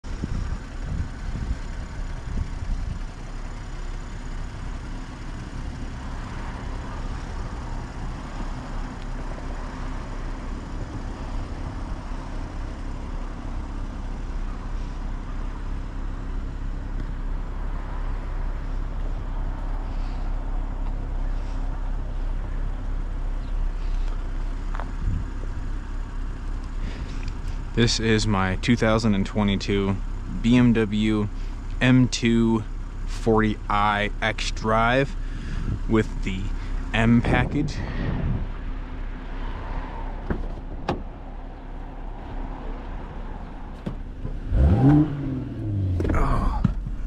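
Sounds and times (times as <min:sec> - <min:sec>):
car engine and road rumble: 0:00.0 - 0:47.0.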